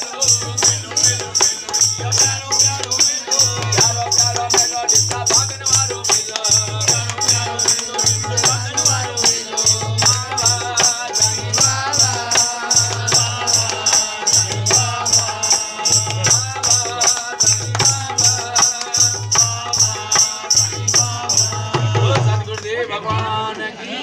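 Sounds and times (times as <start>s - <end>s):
hands clapping a beat: 0.0s - 21.3s, 22.0s - 23.3s
dholak drum beats: 0.0s - 23.5s
person singing: 0.0s - 23.9s.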